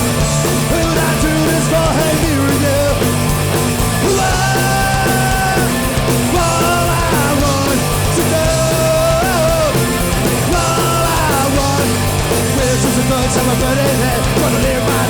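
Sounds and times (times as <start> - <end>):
distorted guitars: 0.0 - 15.0
punk band playing: 0.0 - 15.0
person singing: 0.5 - 3.1, 4.0 - 15.0.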